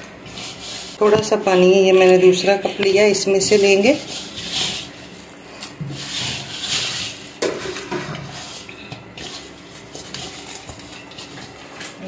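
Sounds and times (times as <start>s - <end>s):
hands kneading wet dough: 0.0s - 12.0s.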